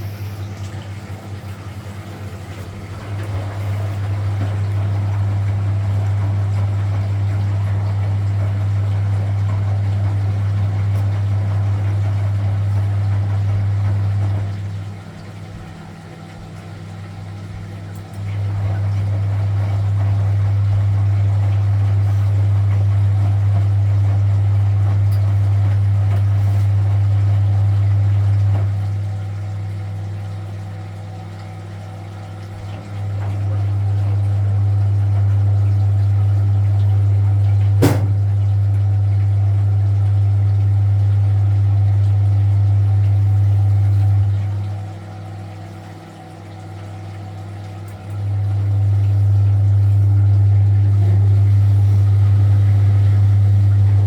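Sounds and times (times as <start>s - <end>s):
washing machine motor humming: 0.0s - 54.0s.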